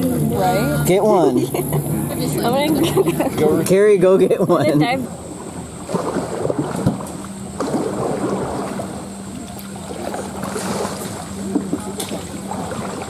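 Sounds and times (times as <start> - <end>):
river water splashing and gurgling: 0.0 - 13.0.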